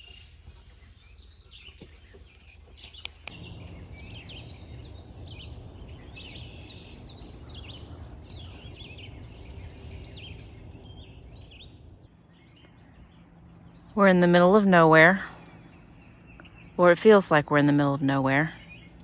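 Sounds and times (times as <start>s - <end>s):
birds chirping: 0.0s - 19.0s
steady low hum: 0.0s - 19.0s.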